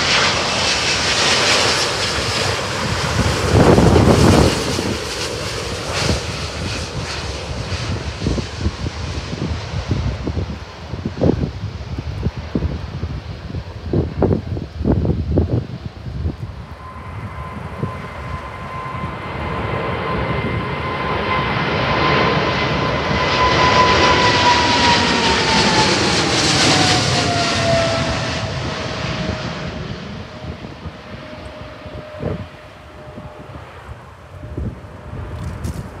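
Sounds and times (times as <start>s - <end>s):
jet engine rumble: 0.0s - 36.0s
jet engine whine: 0.0s - 36.0s.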